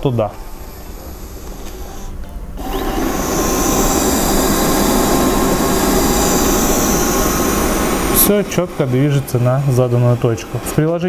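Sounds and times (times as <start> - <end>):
robot vacuum cleaner motor: 0.0 - 11.0.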